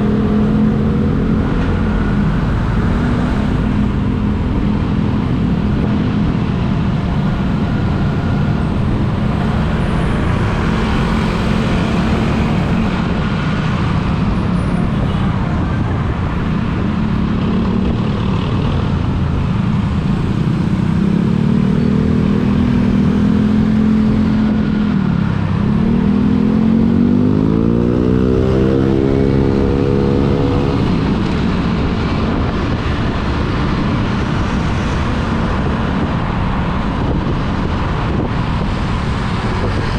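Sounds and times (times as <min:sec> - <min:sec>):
road noise: 0:00.0 - 0:39.9
vehicle engine driving: 0:00.0 - 0:39.9.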